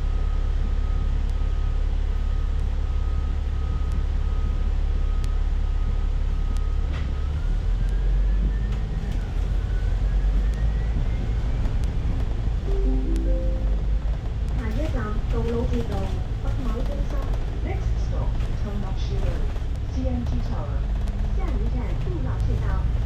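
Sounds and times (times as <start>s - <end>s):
bus engine rumbling: 1.8s - 23.0s.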